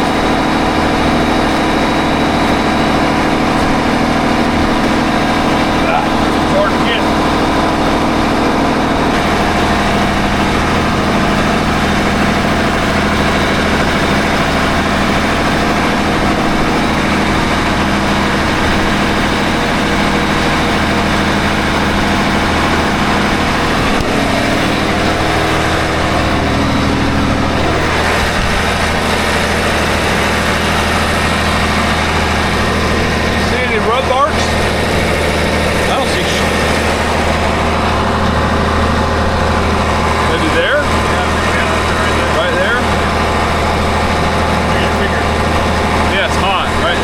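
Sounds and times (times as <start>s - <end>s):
marine diesel engines running: 0.0s - 47.0s.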